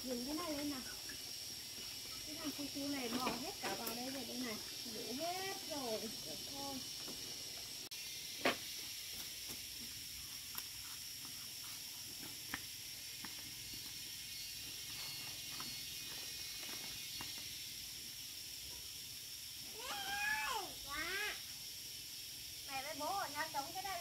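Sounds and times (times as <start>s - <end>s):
steady high-pitched hiss: 0.0s - 24.0s.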